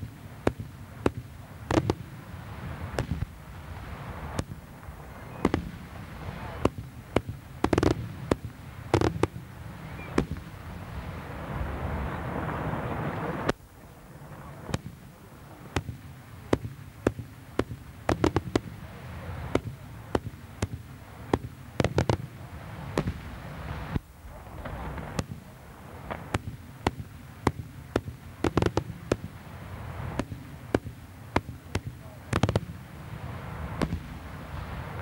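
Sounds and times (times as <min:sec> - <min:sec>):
fireworks bangs: 0:00.0 - 0:35.0.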